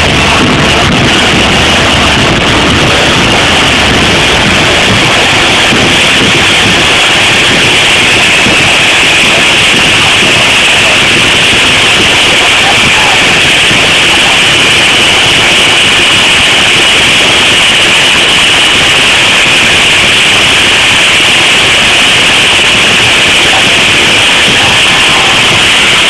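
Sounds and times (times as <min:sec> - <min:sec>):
stadium crowd din: 0:00.0 - 0:26.0.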